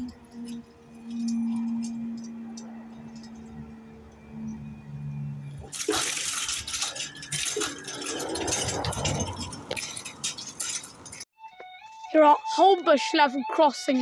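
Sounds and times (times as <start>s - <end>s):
wheel and rail noise: 0.0s - 11.3s
wheels clicking over rail joints: 0.0s - 11.3s.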